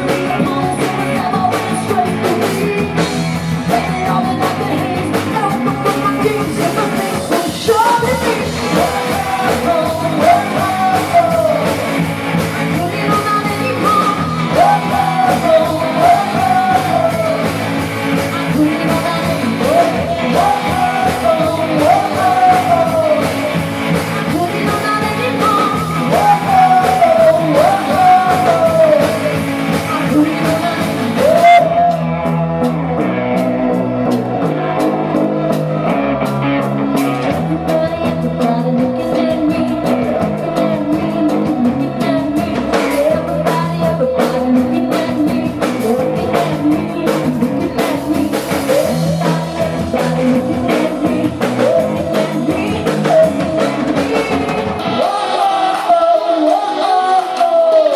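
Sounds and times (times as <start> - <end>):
lead singer singing: 0.0 - 57.9
live rock band playing: 0.0 - 57.9.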